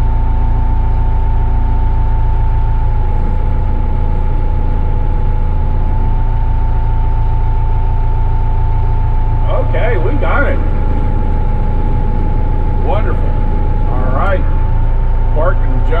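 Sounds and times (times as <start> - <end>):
diesel loader engine running: 0.0 - 16.0
high engine whine: 0.0 - 16.0.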